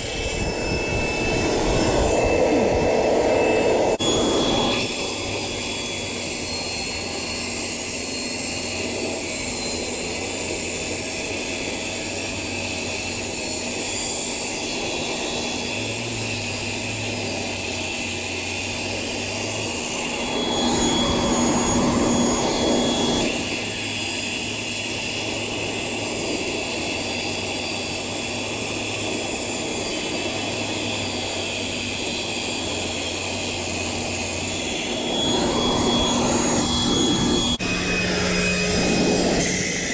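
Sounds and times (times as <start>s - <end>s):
circular saw cutting concrete: 0.0s - 39.9s.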